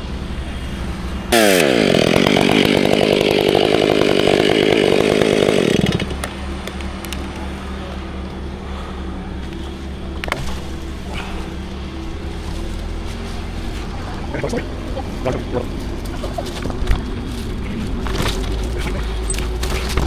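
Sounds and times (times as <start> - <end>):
chainsaw cutting: 0.6 - 20.0.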